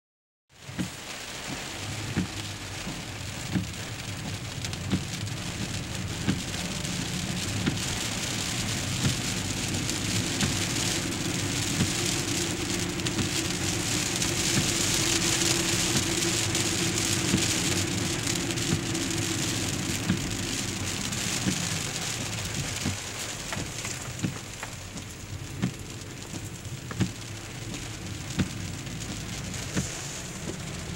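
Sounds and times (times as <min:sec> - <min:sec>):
heavy rain on a car: 0:00.5 - 0:30.9
car humming on wet road: 0:00.6 - 0:30.9.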